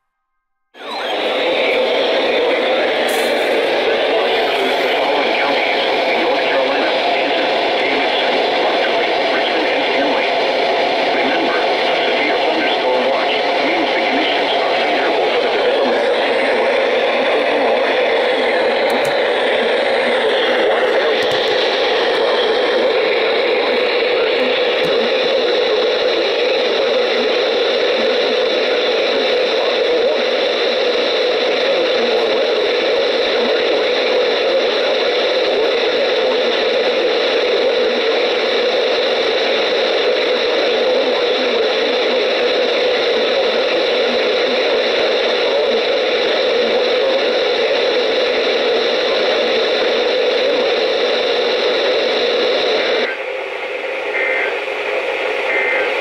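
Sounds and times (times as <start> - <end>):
faint steady whines: 0.8 - 56.0
radio static hiss: 0.8 - 56.0.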